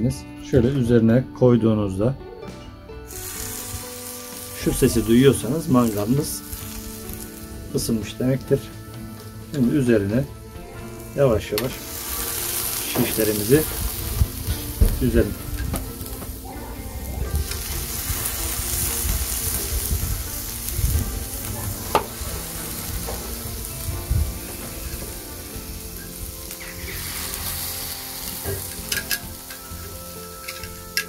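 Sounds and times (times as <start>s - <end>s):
meat sizzling on a grill: 3.0s - 31.0s.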